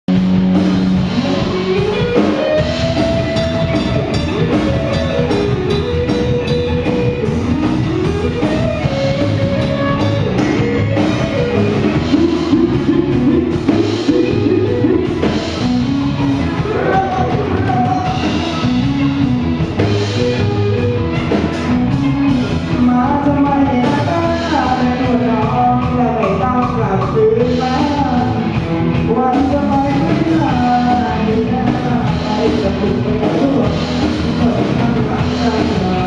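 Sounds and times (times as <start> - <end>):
live rock band playing: 0.1 - 36.0
sliding guitar melody: 0.1 - 36.0.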